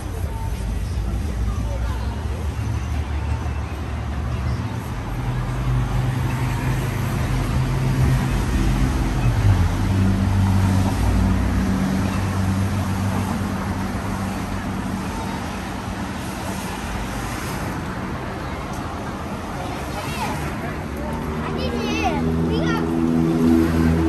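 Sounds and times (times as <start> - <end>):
vehicle engine humming: 0.0 - 24.0.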